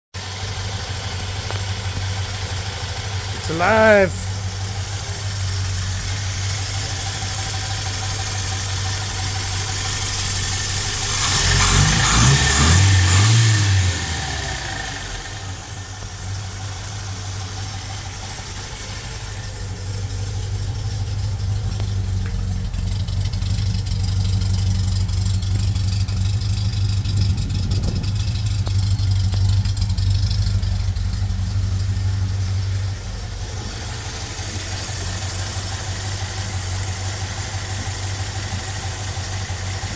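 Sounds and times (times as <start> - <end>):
car engine idling and revving: 0.2 - 39.9.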